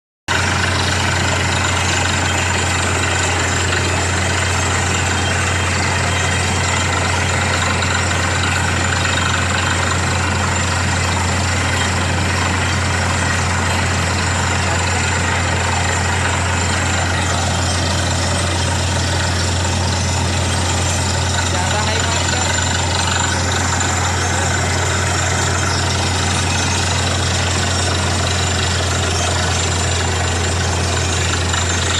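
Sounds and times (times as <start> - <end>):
drilling rig engine humming: 0.3 - 31.9.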